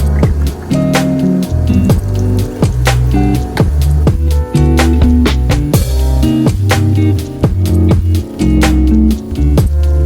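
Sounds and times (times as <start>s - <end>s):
music with deep bass and beat: 0.0s - 10.0s.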